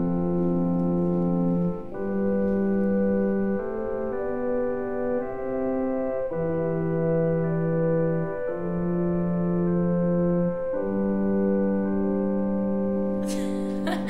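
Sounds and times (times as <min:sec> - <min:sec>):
slow organ chords: 0:00.0 - 0:14.0.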